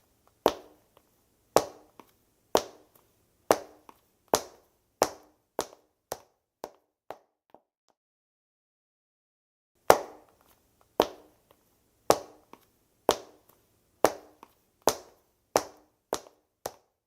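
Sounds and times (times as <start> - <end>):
dress shoe footsteps: 0.3 - 7.6, 9.9 - 17.0.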